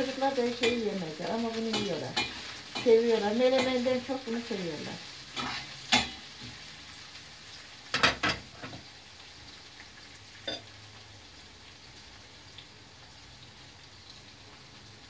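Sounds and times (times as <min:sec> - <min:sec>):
peppers sizzling in oil: 0:00.0 - 0:15.0.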